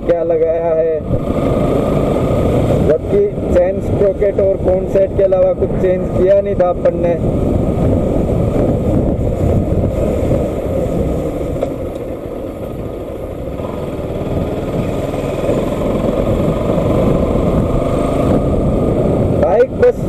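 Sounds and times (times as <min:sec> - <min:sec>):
motorcycle engine running: 0:01.0 - 0:04.9, 0:07.2 - 0:19.6.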